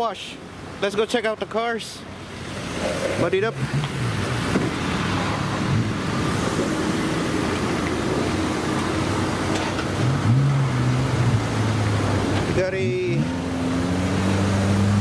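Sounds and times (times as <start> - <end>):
engine running: 2.1 - 15.0.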